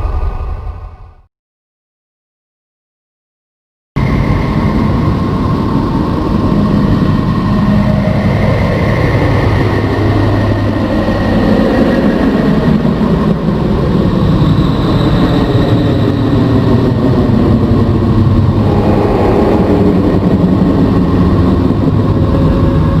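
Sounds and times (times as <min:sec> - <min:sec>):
droning rumble: 0:04.0 - 0:23.0.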